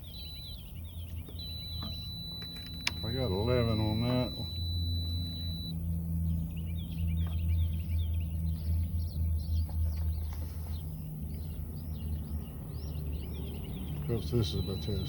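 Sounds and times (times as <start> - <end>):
birds chirping: 0.0 - 15.0
low mechanical hum: 0.0 - 15.0.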